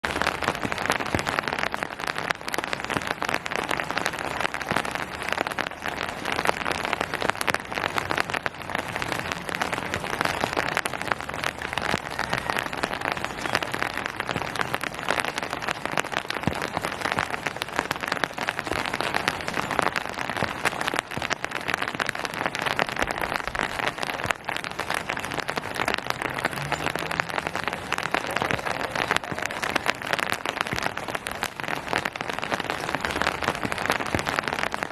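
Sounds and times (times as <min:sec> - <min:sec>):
rain pattering: 0:00.0 - 0:34.9.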